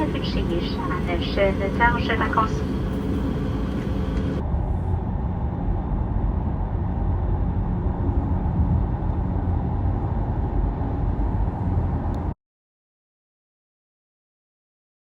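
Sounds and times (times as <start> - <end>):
airplane cabin rumble: 0.0 - 12.4.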